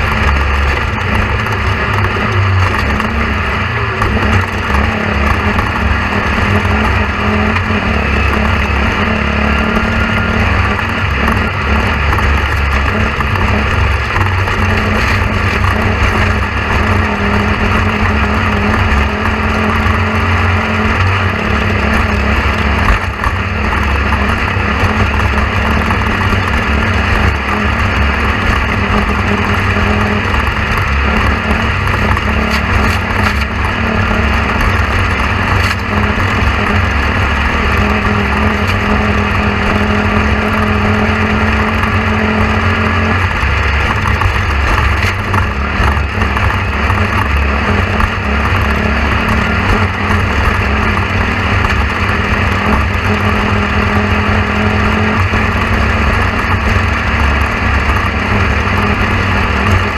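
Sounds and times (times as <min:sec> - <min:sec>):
motor running steadily: 0:00.0 - 0:59.9.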